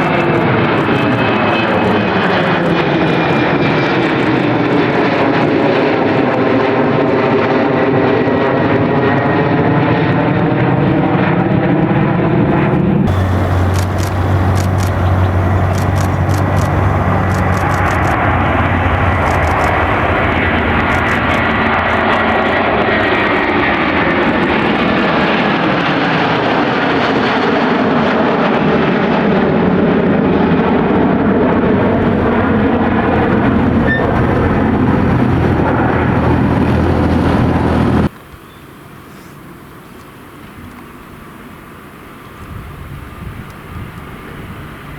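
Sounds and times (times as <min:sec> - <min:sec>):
airliner engines running: 0:00.0 - 0:44.9.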